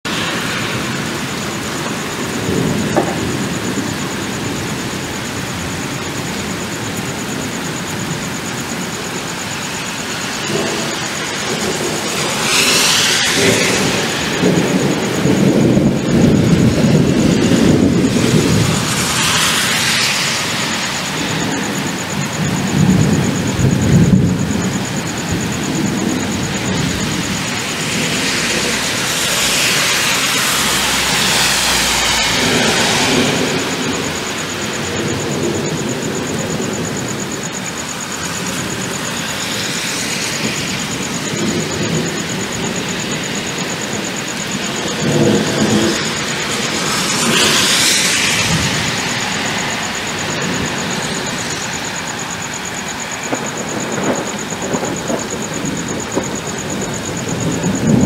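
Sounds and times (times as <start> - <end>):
steady rain: 0.0 - 58.0
thunder crack and rumbles: 0.1 - 58.0.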